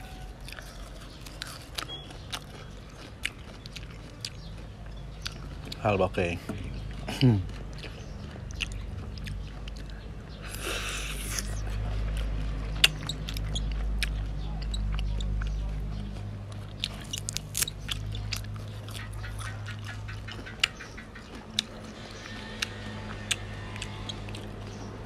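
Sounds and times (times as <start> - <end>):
wet chewing and smacking: 0.0 - 25.0.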